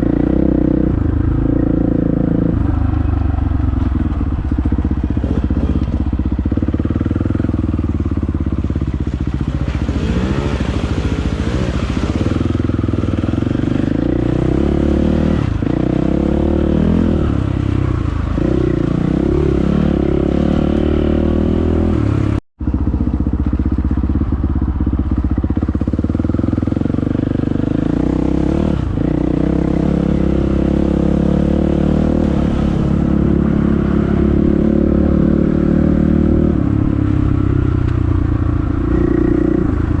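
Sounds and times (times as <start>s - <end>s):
dirt bike engine revving: 3.9s - 22.4s, 25.5s - 37.6s, 38.6s - 40.0s.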